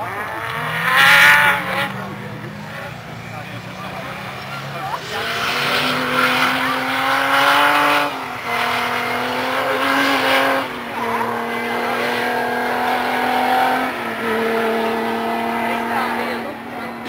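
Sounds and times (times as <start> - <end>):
race car engine revving high: 0.0 - 17.0.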